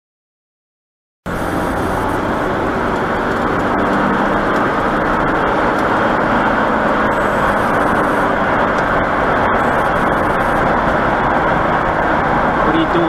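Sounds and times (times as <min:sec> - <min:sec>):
car road and engine noise: 0:01.3 - 0:13.0.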